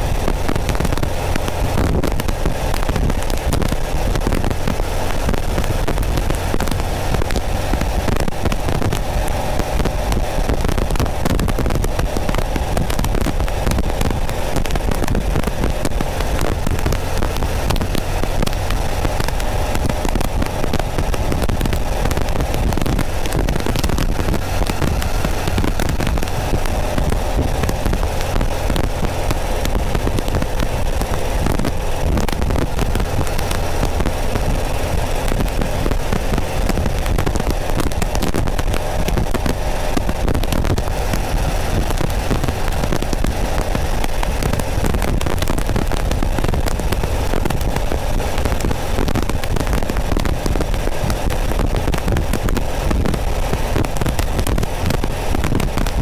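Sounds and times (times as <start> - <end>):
car engine running: 0.0 - 56.0
microphone crackling static: 0.0 - 56.0.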